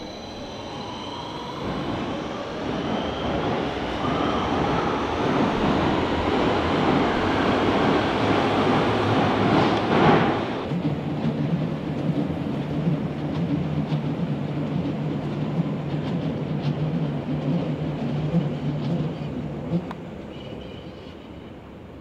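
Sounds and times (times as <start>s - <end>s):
train rumbling on viaduct: 0.0s - 22.0s.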